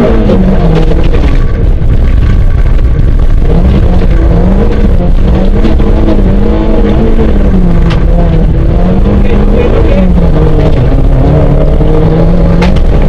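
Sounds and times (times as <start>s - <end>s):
car engine revving high: 0.0s - 13.0s
road noise: 0.0s - 13.0s.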